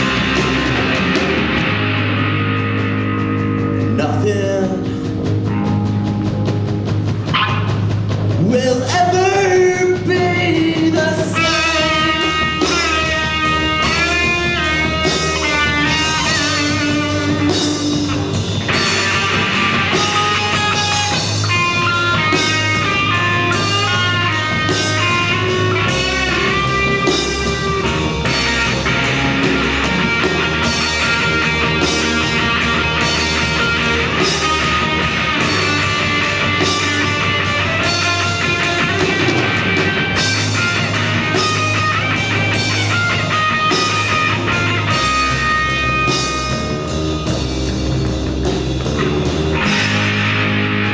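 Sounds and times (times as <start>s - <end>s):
bass guitar: 0.0s - 50.9s
lead electric guitar bending notes: 0.0s - 50.9s
steady drum beat: 0.0s - 50.9s.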